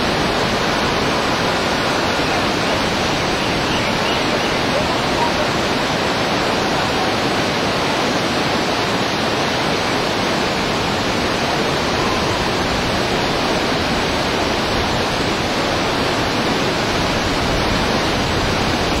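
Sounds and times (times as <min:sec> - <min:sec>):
rushing river whitewater: 0:00.0 - 0:19.0.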